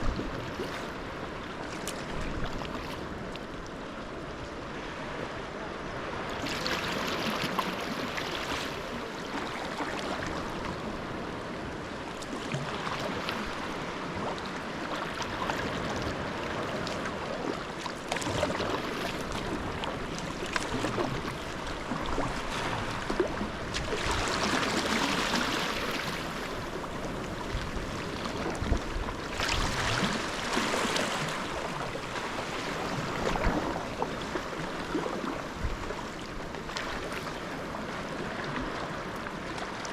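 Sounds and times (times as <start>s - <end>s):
water splashing along hull: 0.0s - 39.9s.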